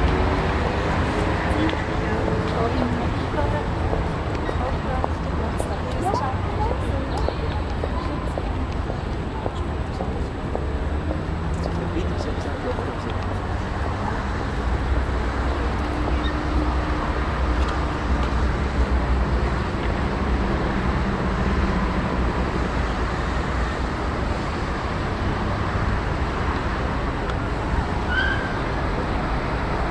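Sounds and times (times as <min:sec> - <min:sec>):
outdoor noise: 0:00.0 - 0:29.9.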